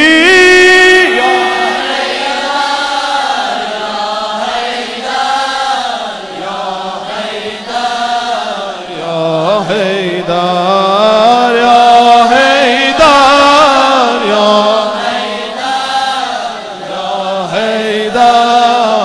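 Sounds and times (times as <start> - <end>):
men's chorus singing in unison: 0.0 - 19.0.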